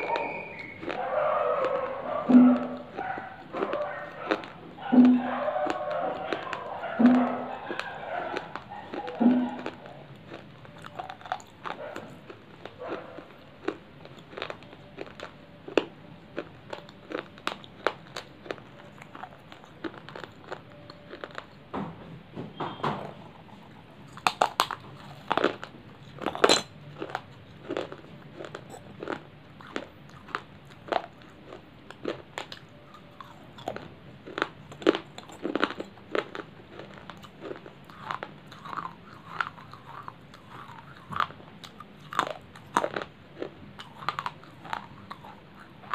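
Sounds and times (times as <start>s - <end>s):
clay chips being chewed: 0.0s - 21.7s, 23.0s - 45.9s.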